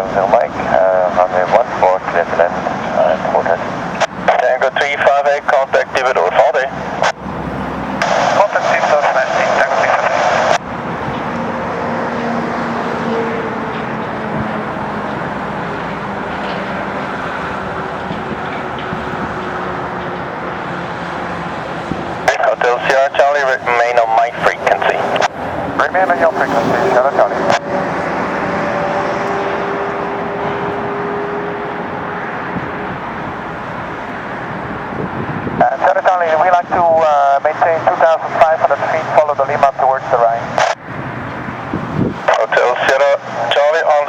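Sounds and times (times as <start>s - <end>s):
propeller aircraft engines droning: 0.0s - 44.0s.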